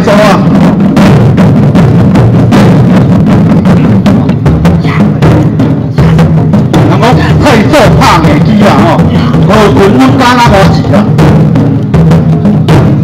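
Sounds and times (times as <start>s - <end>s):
taiko drums beating: 0.0s - 13.0s.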